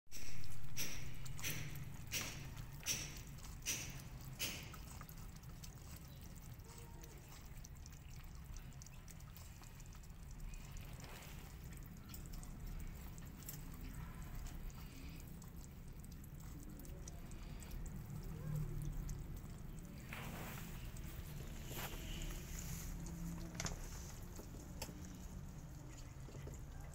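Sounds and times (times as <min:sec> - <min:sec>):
cats chewing and lapping: 0:00.1 - 0:26.9
low steady rumble: 0:00.4 - 0:26.9.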